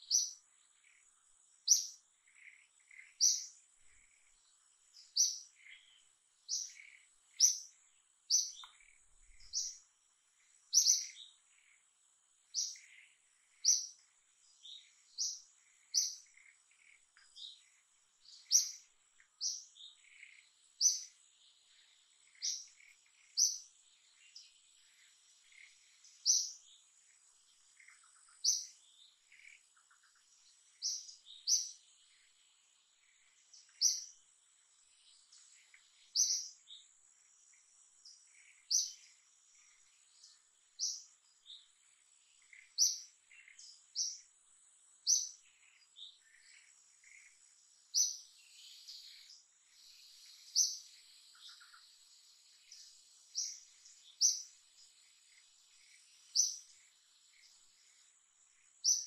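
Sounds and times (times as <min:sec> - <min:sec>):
faint bird chirps: 0:00.0 - 0:59.0
high insect hum: 0:00.0 - 0:59.0.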